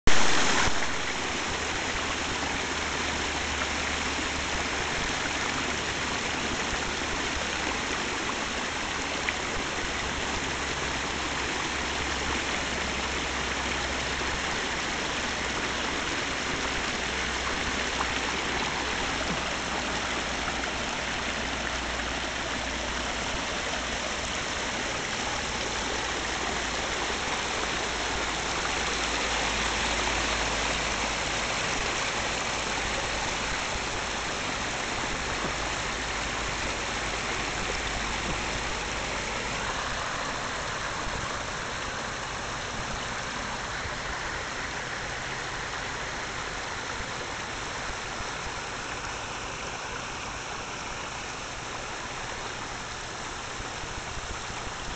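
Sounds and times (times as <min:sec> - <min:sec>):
waterfall splashing over boulders: 0:00.0 - 0:54.9.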